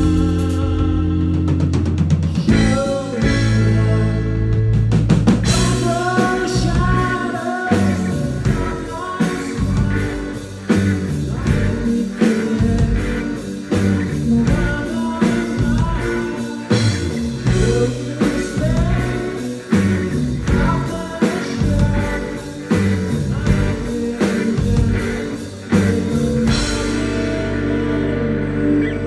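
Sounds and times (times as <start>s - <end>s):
person singing: 0.0s - 4.5s, 5.5s - 29.0s
live rock band playing: 0.0s - 29.0s.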